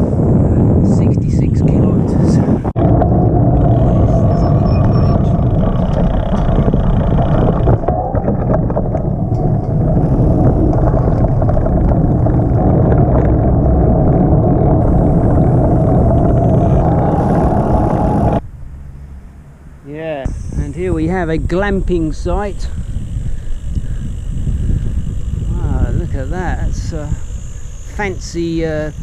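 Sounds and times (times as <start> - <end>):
wind rumble on microphone: 0.0 - 18.8, 20.2 - 29.0.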